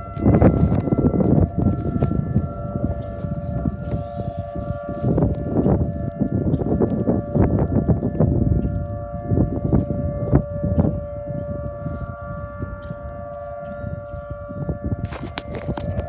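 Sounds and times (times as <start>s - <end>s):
tornado siren steady tone: 0.0s - 16.0s.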